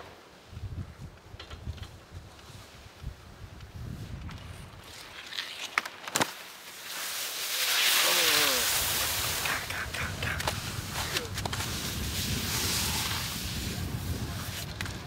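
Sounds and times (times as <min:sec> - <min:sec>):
skis scraping on snow: 0:01.9 - 0:15.0.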